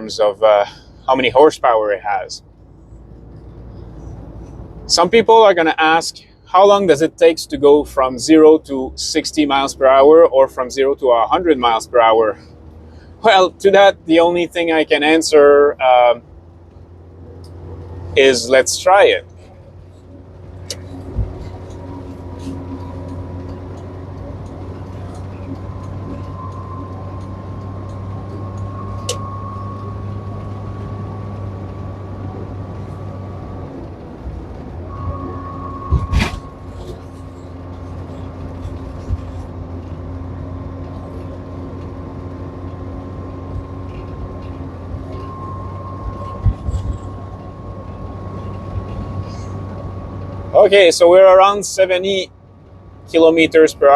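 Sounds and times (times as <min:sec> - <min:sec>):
rising engine whine: 0:00.0 - 0:53.9
van engine accelerating: 0:00.0 - 0:53.9.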